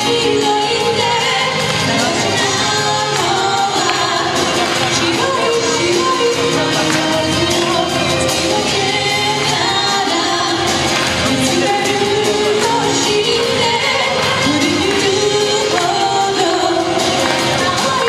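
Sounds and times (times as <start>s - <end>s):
instrumental backing: 0.0s - 18.0s
person singing: 0.0s - 18.0s.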